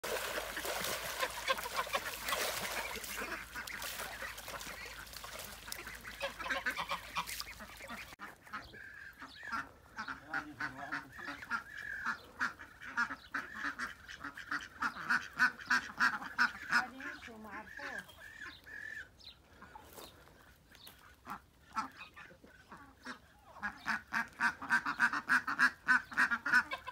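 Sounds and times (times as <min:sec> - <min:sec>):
ducks quacking: 0:00.0 - 0:26.9
ducks splashing in water: 0:00.0 - 0:26.9.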